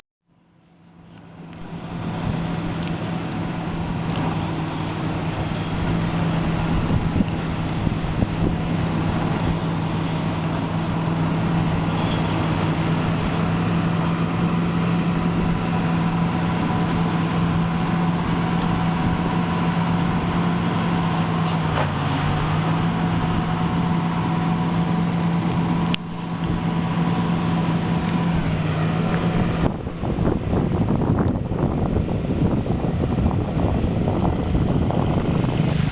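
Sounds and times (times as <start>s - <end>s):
diesel engine running: 0.3s - 35.9s.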